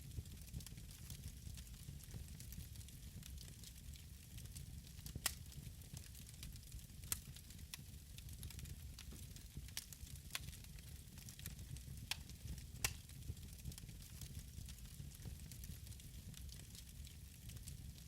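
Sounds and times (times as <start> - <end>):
fire crackling and popping: 0.0 - 18.0
wood fire rumbling: 0.1 - 18.0.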